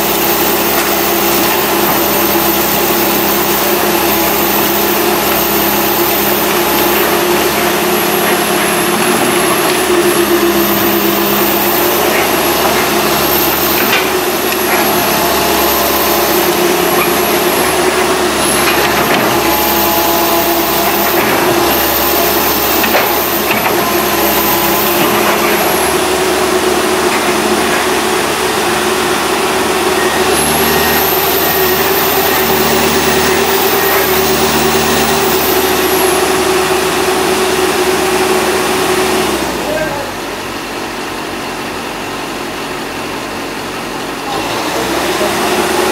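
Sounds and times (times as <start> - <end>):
high whine: 0.0 - 39.9
excavator diesel engine running: 0.0 - 45.9.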